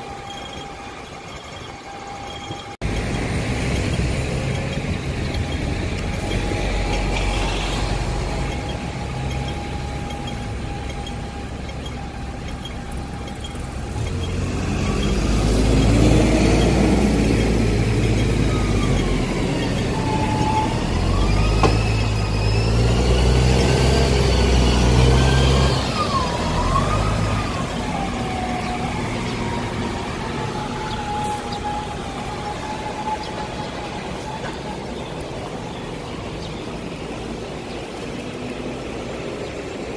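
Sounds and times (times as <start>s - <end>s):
bus engine humming: 0.0s - 39.9s
driveline whine: 0.0s - 39.9s.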